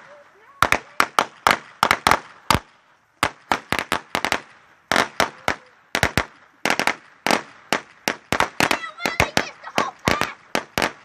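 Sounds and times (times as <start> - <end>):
firecrackers popping: 0.0 - 11.0.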